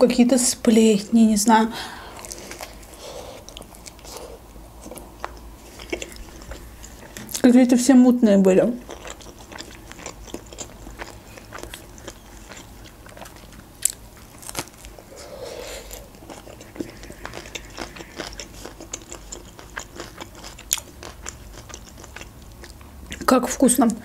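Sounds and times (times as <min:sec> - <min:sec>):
burrito being bitten and chewed: 0:02.1 - 0:07.5, 0:08.8 - 0:23.2.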